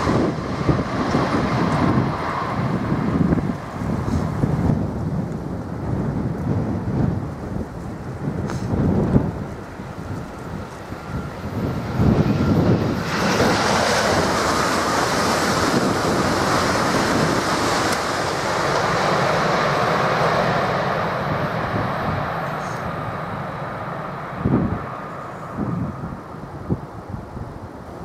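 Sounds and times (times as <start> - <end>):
electric train passing at speed: 0.0 - 28.0.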